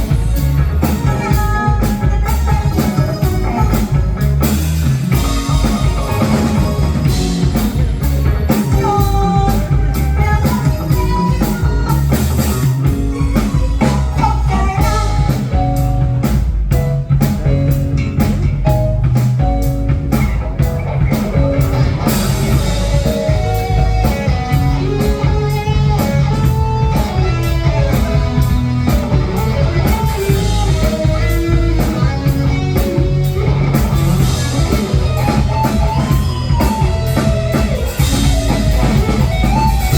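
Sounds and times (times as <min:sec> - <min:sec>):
electric guitar melody: 0:00.0 - 0:39.9
rock-funk band playing: 0:00.0 - 0:39.9.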